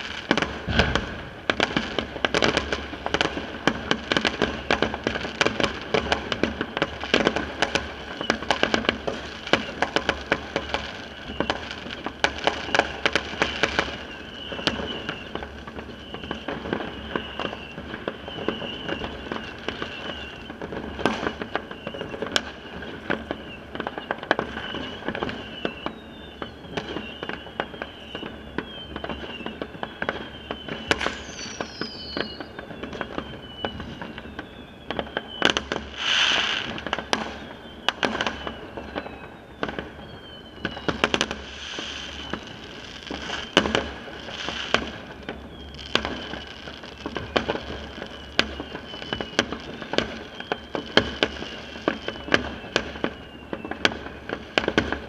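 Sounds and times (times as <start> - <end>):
falling firework whistles: 0.0 - 55.0
fireworks banging and crackling: 0.0 - 55.0.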